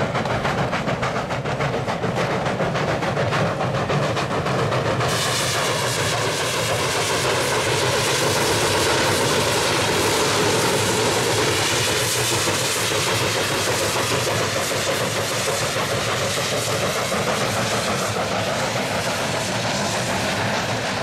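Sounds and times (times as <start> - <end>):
steam locomotive exhaust roaring: 0.0 - 21.0.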